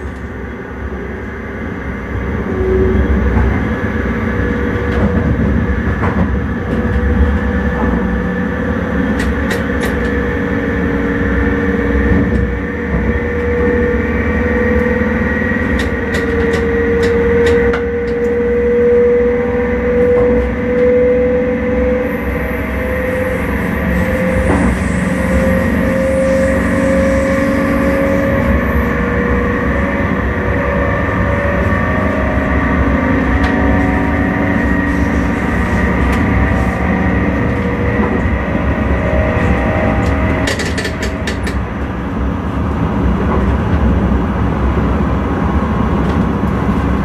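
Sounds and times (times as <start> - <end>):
train motor whine: 0.0 - 43.8
train wheels rumbling on track: 0.0 - 47.0.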